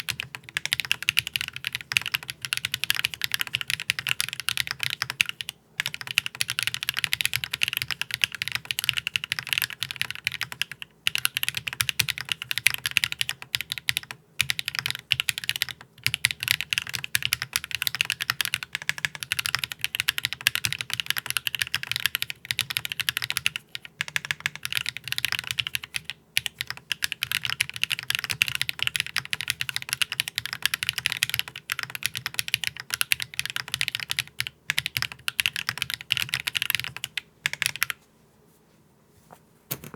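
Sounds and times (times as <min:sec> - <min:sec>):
mechanical keyboard typing: 0:00.0 - 0:38.0.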